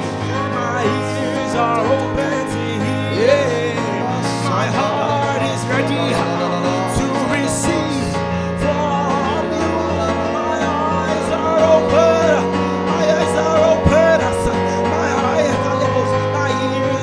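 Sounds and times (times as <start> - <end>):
instrumental accompaniment: 0.0 - 17.0
man singing into microphone: 0.0 - 17.0.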